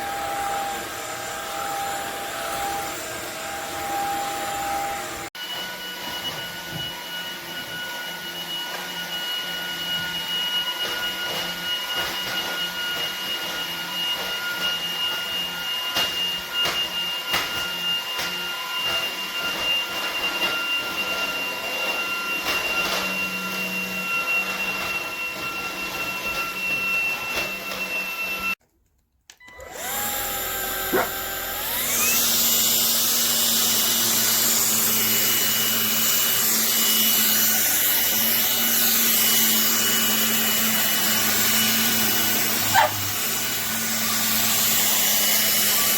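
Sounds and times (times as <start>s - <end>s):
stick vacuum whining: 0.0s - 28.6s, 29.3s - 45.9s.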